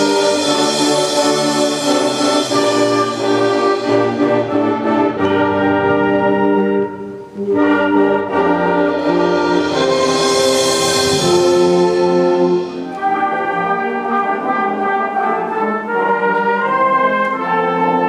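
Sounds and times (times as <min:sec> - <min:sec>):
band playing brass chords: 0:00.0 - 0:18.0.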